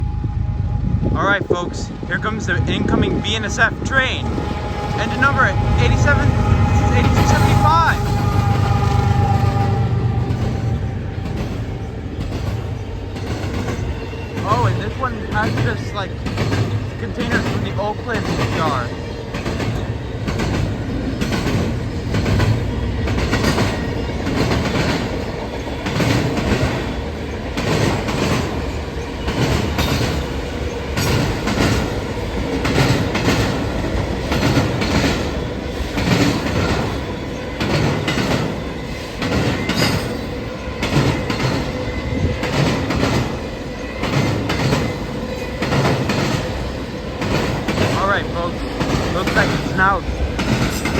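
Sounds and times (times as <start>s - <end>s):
train wheels rumbling on rail: 0.0s - 50.9s
wheels clacking over rail joints: 4.2s - 50.9s.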